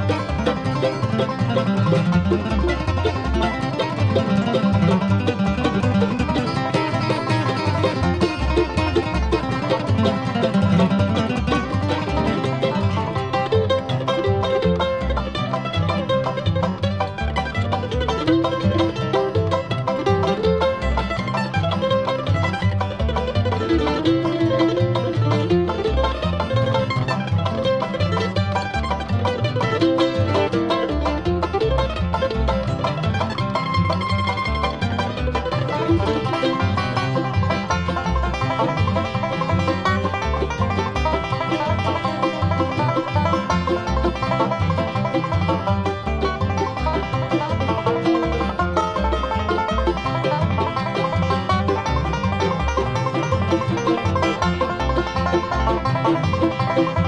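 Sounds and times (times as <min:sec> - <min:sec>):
bluegrass string band: 0:00.0 - 0:57.0
fast picked banjo: 0:00.0 - 0:57.0
rhythm guitar: 0:00.0 - 0:57.0
walking bass line: 0:00.0 - 0:57.0.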